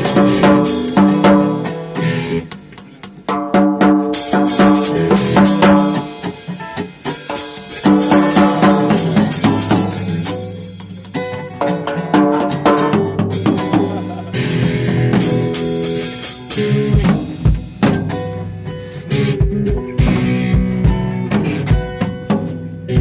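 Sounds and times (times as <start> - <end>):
drum kit beating: 0.0 - 23.0
garage rock band playing: 0.0 - 23.0.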